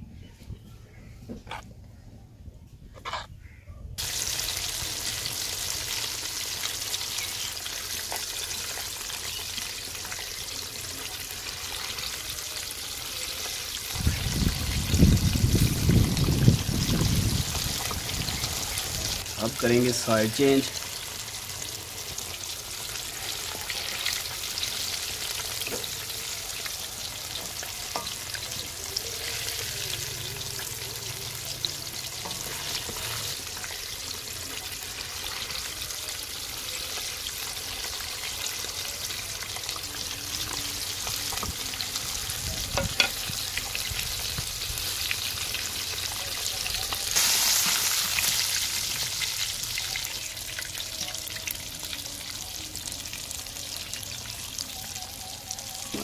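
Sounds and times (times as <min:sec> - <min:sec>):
fish deep-frying in oil: 0:04.0 - 0:56.0.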